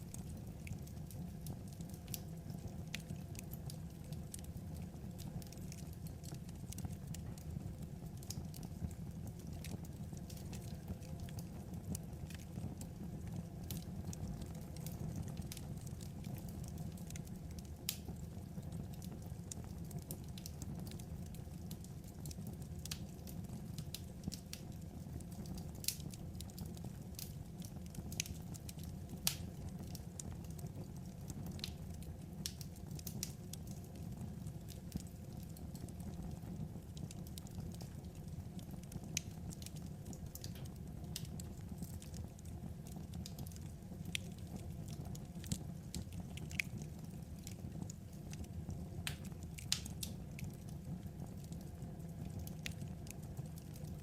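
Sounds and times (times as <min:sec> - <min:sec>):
burning firewood crackling: 0:00.0 - 0:54.0.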